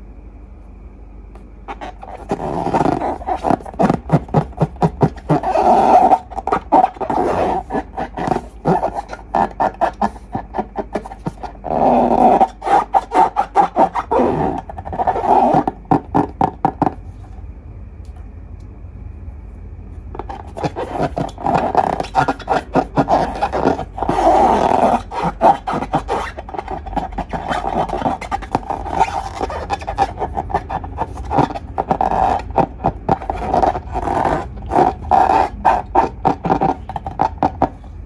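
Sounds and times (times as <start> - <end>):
squeaky rubbing of rubber balloons: 1.7 - 17.3, 20.2 - 38.0.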